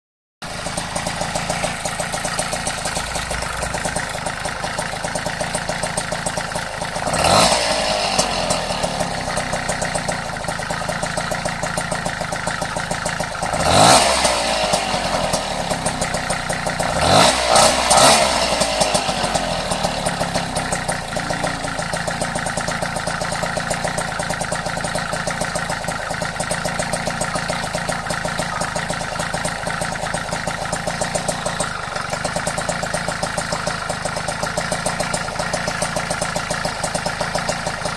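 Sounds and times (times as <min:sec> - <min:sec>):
moped engine idling with ticking: 0:00.4 - 0:37.9
moped throttle blips: 0:00.5 - 0:36.6
moped riding off: 0:00.5 - 0:37.6.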